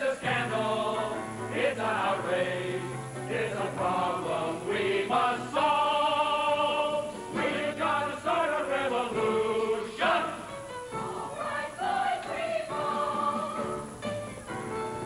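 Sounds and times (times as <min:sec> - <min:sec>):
chorus singing with accompaniment: 0:00.0 - 0:15.0.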